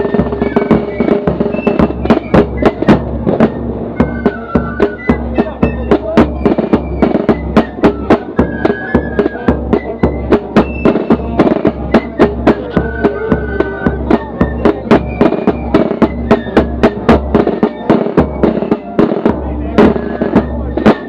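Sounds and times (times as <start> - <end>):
flutes playing melody: 0.0 - 21.0
snare and bass drums beating: 0.0 - 21.0.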